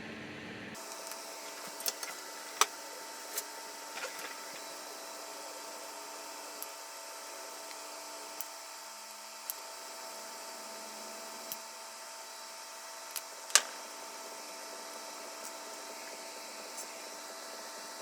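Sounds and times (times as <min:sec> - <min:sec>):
faint hiss and hum: 0:00.0 - 0:18.0.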